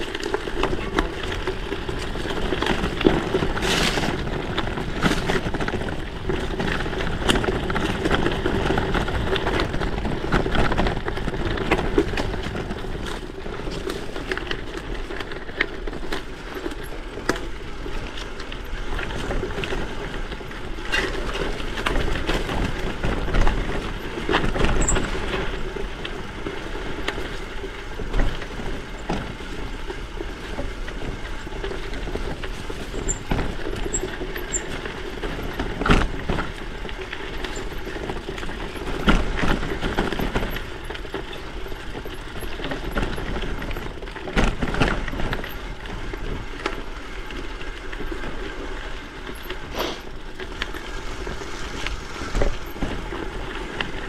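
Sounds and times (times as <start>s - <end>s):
bike knocks and rattles: 0.0s - 54.0s
bike tyres rolling on rough trail: 0.0s - 54.0s.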